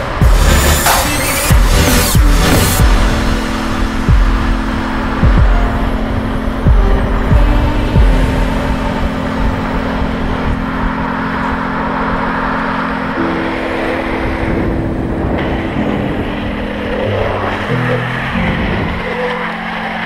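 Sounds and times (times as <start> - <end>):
low humming tones: 0.0 - 20.0
wind rushing over microphone: 0.0 - 20.0
wheels rolling on asphalt: 3.0 - 20.0.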